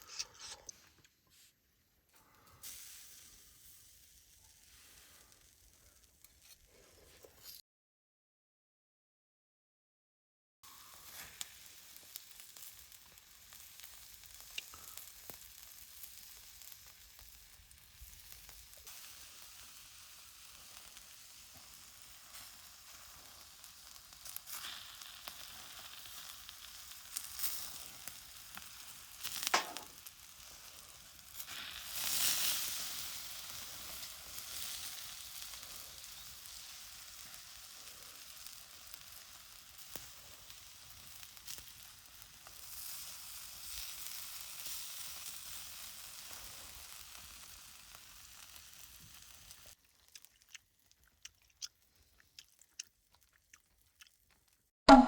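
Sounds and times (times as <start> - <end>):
food sizzling: 0.0 - 0.9, 2.6 - 7.5, 10.6 - 52.8.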